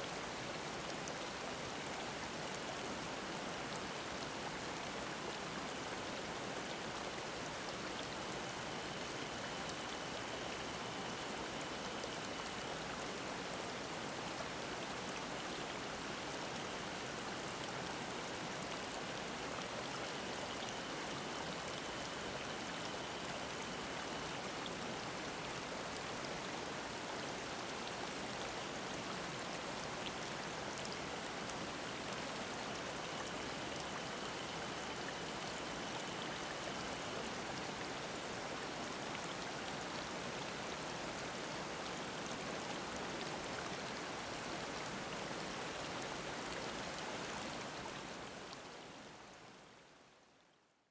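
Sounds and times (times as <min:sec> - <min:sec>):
stream flowing over rocks: 0:00.0 - 0:50.0.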